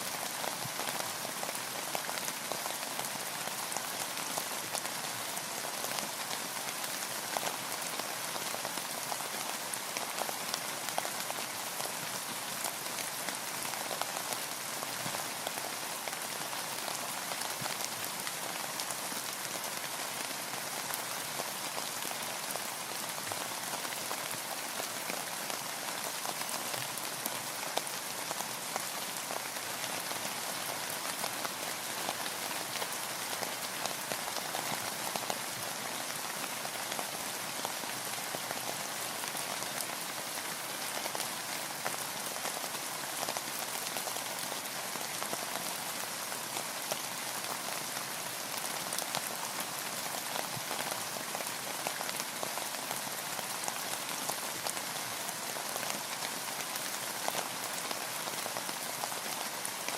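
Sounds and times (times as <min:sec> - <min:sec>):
rain with close drop taps: 0:00.0 - 0:59.9.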